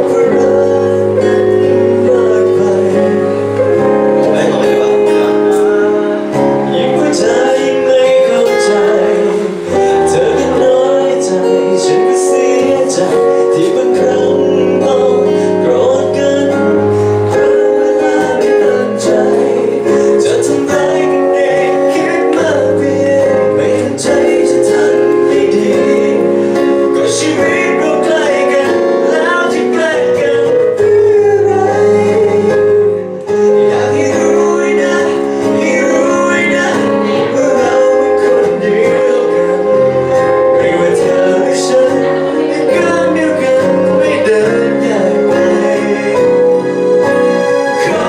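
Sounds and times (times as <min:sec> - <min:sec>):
pop song with guitar and singing: 0:00.0 - 0:48.0.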